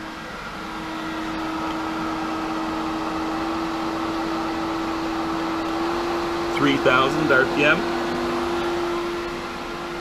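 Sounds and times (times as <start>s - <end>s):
pool pump motor hum: 0.0s - 10.0s.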